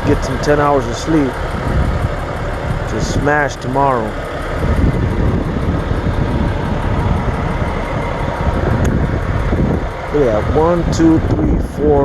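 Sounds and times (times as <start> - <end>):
diesel truck engines idling: 0.0 - 12.0.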